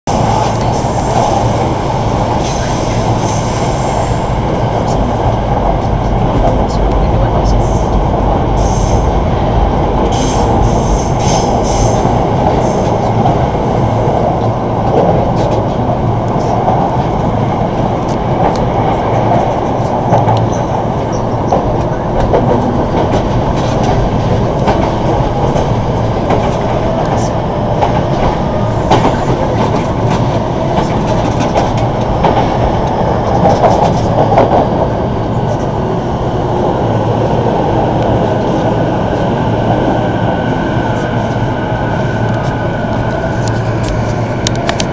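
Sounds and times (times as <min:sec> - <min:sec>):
train wheels rumbling on rail: 0:00.1 - 0:44.9.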